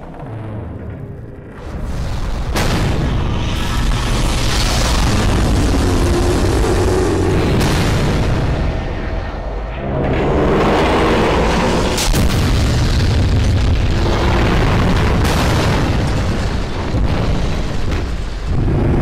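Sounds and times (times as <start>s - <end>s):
heavy booms and explosions: 0.0s - 19.0s
steady low rumble: 0.0s - 19.0s.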